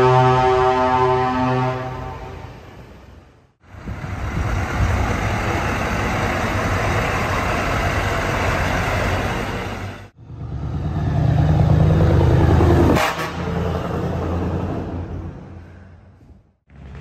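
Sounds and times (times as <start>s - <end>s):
truck diesel engine: 0.0s - 17.0s
tyre and road noise: 0.0s - 17.0s.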